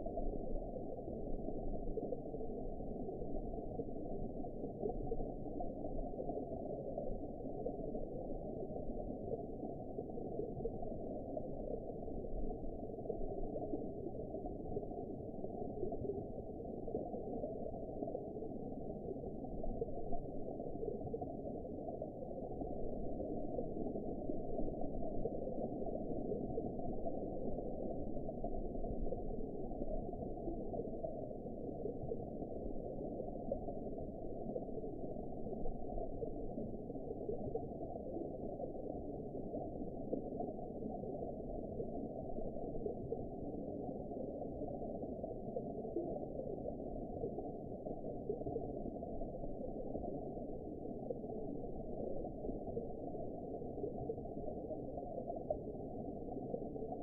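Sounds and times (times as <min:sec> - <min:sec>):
muffled underwater water noise: 0:00.0 - 0:57.0.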